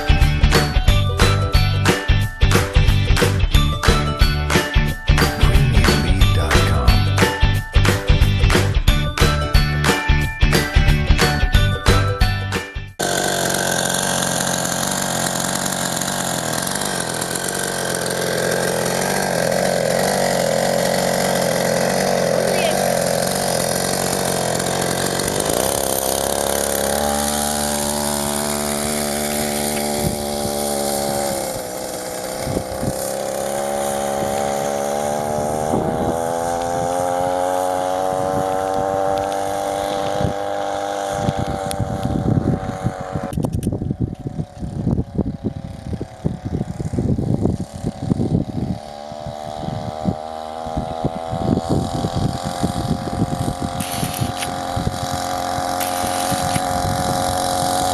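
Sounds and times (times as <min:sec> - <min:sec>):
small two-stroke engine running: 0:00.0 - 0:57.9.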